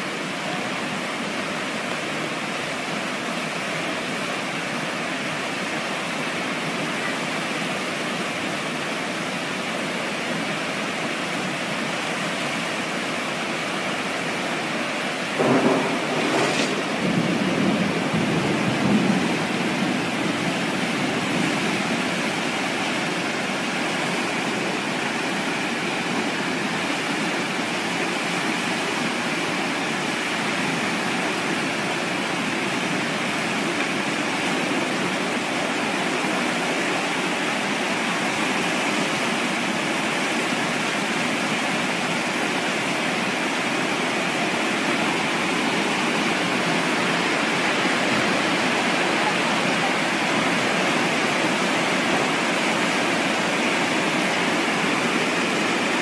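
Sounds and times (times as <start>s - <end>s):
flood water rushing: 0.0s - 56.0s.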